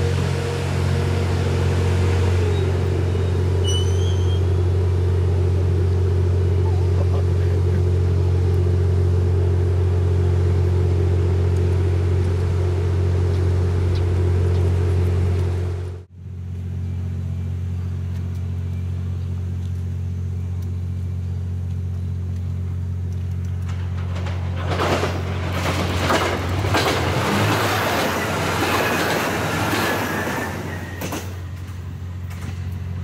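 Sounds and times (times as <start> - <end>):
diesel train engine drone: 0.0 - 33.0.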